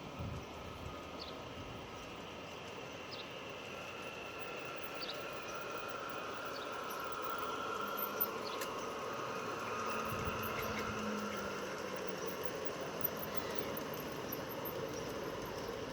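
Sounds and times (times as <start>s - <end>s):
model train motor whine: 1.8s - 15.9s.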